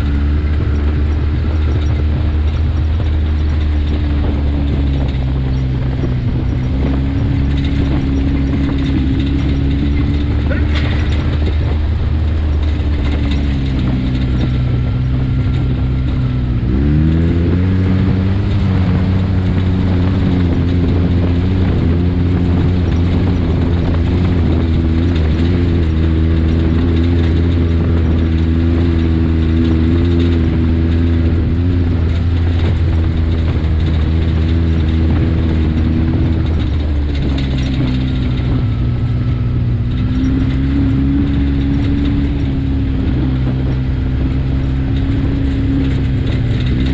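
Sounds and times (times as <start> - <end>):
utility vehicle engine running: 0.0 - 46.9.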